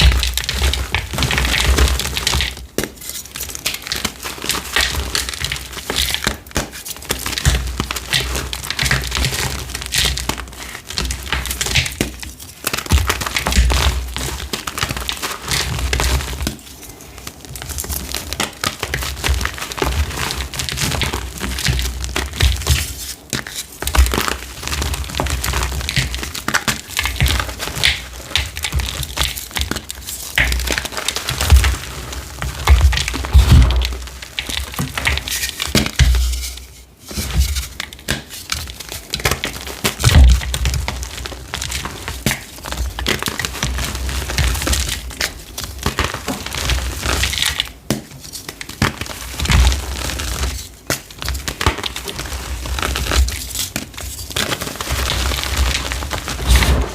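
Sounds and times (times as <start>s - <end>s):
chalk crushing and crunching: 0.0s - 56.9s.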